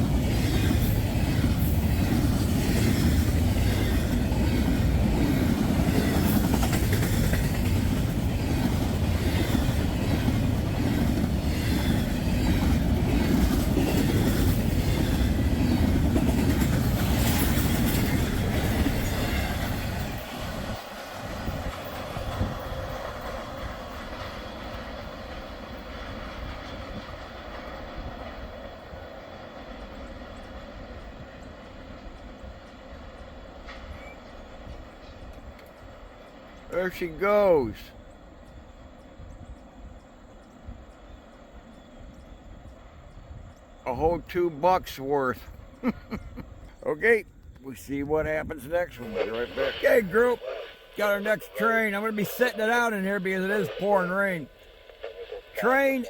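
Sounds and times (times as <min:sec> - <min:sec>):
freight train rolling past: 0:00.0 - 0:56.0
wheels clicking over rail joints: 0:00.0 - 0:56.0.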